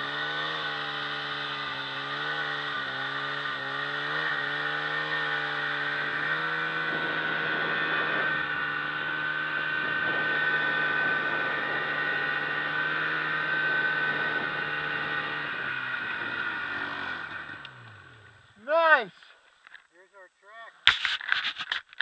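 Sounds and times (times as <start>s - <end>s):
snowmobile engine running: 0.0s - 19.1s.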